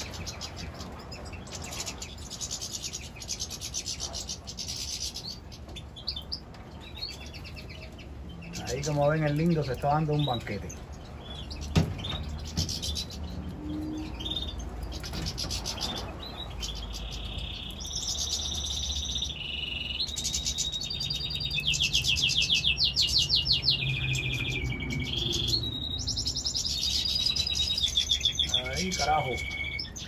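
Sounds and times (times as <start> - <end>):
songbird singing trills: 0.0 - 30.0.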